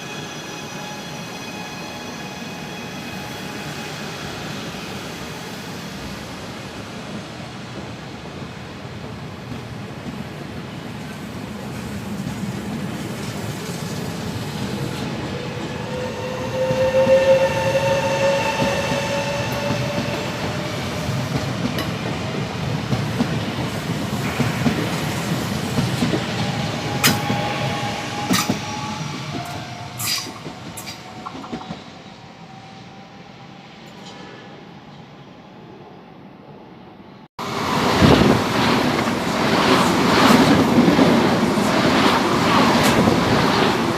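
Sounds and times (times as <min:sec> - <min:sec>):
train wheels rumbling on rail: 0:00.0 - 0:32.6, 0:37.4 - 0:43.9
rising train whine: 0:00.0 - 0:43.9.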